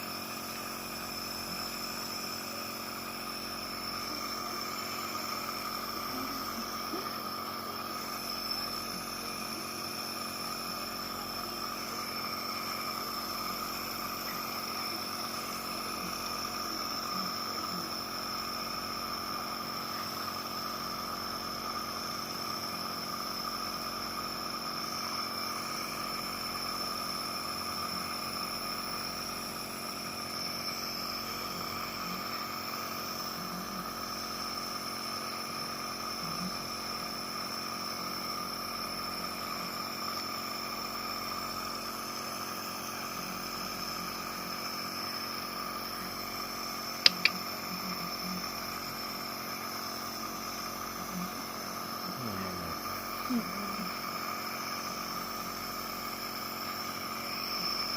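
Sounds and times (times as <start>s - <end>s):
air compressor humming with hiss: 0.0s - 57.9s.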